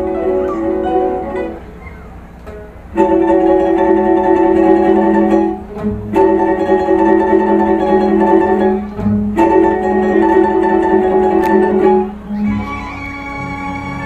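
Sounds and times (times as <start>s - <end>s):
orchestra playing held chords: 0.0s - 1.8s, 2.6s - 14.0s.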